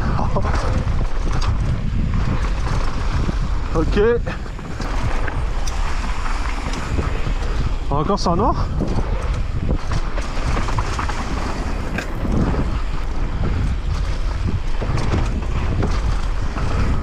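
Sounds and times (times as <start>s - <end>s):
bike knocking and rattling: 0.0s - 17.0s
tyres rumbling over dirt: 0.0s - 17.0s
wind buffeting microphone: 0.0s - 17.0s.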